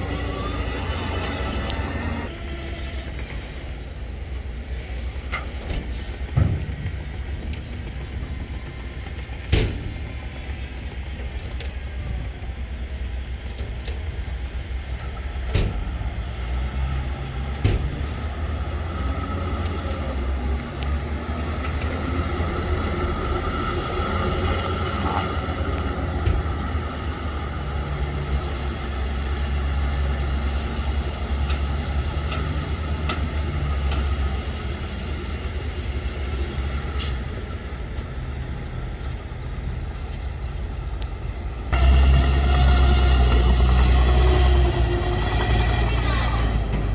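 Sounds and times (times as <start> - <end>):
diesel machinery engine drone: 0.0 - 46.9.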